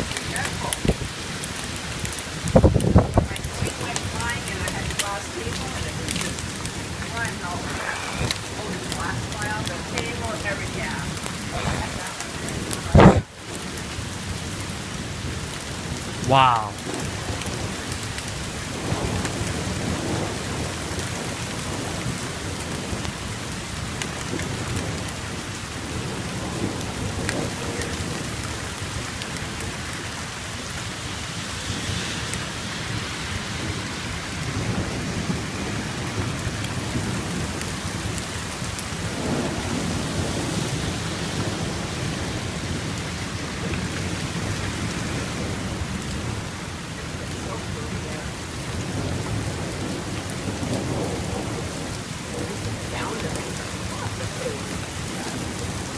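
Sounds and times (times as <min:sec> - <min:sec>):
thunder rumbling: 0:00.0 - 0:29.7, 0:33.6 - 0:46.5, 0:47.1 - 0:55.9
heavy rain pouring: 0:00.0 - 0:55.9.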